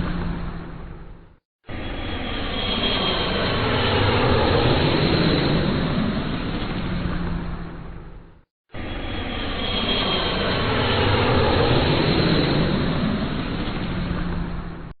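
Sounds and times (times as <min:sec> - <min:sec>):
airplane engine roar: 0:00.0 - 0:15.0.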